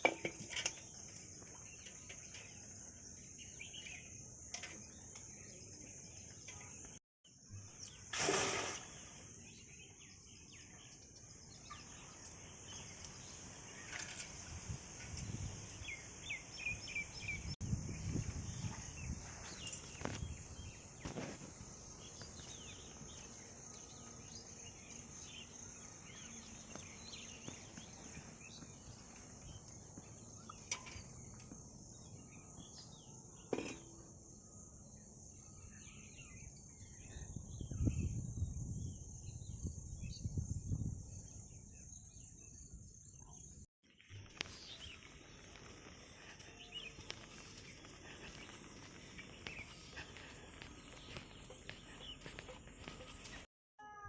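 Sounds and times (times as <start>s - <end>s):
insect drone: 7.3s - 43.6s, 44.2s - 51.4s.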